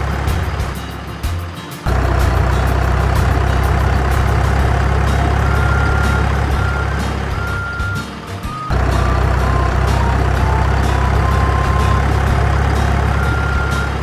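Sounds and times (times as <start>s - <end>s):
heavy truck engine running: 0.0s - 14.0s
short high steady tones: 1.9s - 14.0s.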